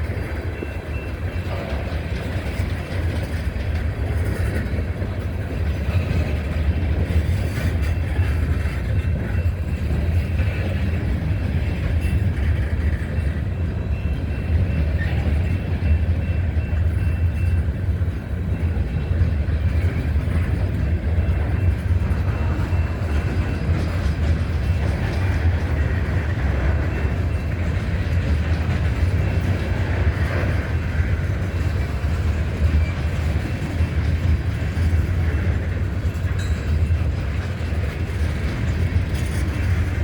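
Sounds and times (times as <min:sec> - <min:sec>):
freight train wheels rumbling on rail: 0:00.0 - 0:40.0.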